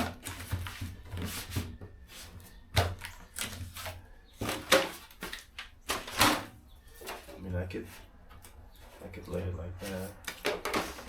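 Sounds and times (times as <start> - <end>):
sheet rustling and crinkling: 0.0 - 11.0.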